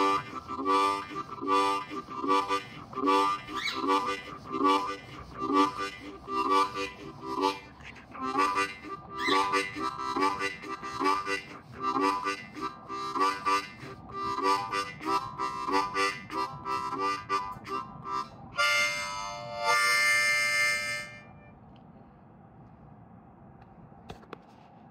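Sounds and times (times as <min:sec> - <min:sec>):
harmonica chugging chords: 0:00.0 - 0:21.5
harmonica train whistle chord: 0:00.0 - 0:21.5.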